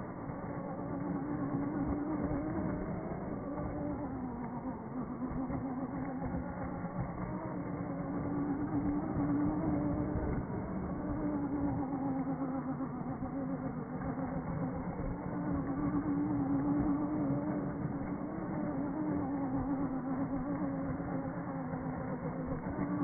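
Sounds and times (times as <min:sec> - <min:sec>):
toy car motor whining: 0:00.4 - 0:23.0.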